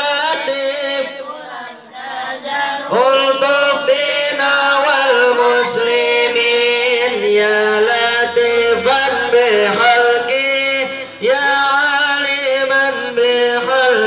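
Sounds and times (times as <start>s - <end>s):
group of voices chanting: 0.0s - 11.6s.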